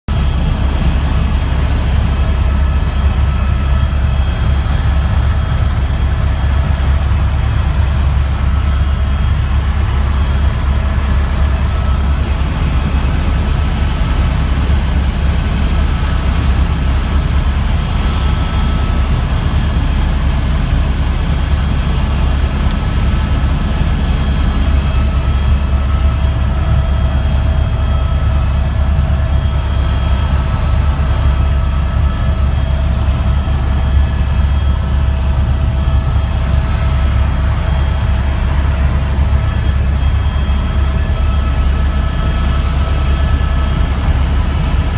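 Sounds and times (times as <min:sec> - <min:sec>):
helicopter rotor drone: 0:00.1 - 0:44.9
thin steady whine: 0:00.1 - 0:44.9.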